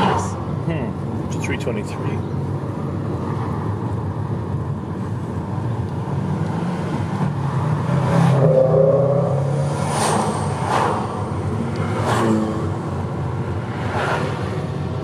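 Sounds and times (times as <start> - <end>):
car engine and road rumble: 0.0 - 15.0
oncoming traffic passing: 0.0 - 15.0.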